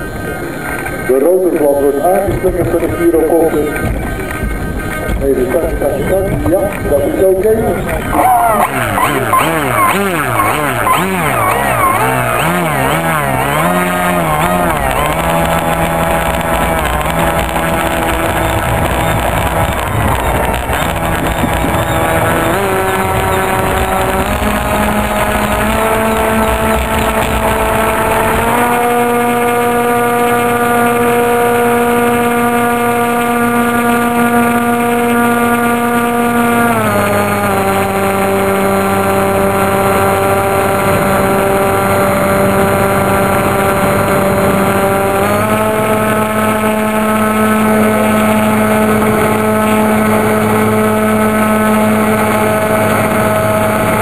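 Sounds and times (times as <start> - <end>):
model aircraft motor and propeller: 0.0 - 54.0.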